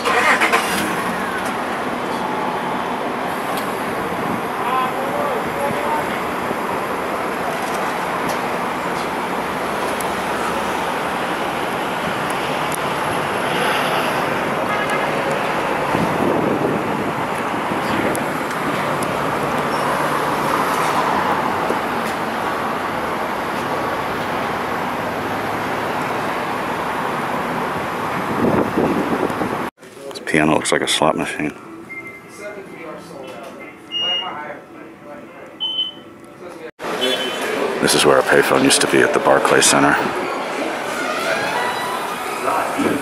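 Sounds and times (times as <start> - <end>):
city street traffic: 0.0 - 43.0.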